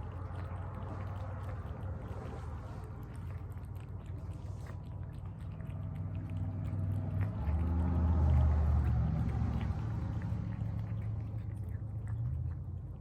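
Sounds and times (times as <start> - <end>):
cats chewing and lapping: 0.0 - 13.0
low hum: 0.0 - 13.0.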